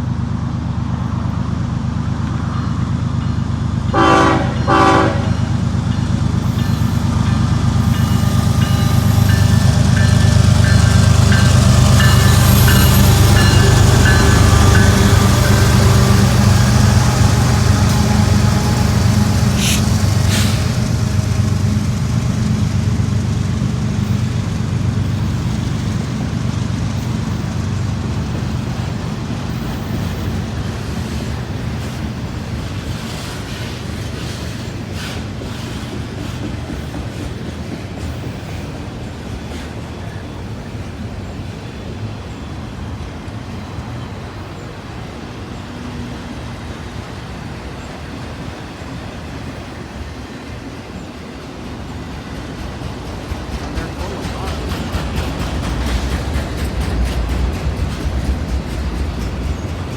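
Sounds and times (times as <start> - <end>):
freight train rolling by: 0.0 - 59.9.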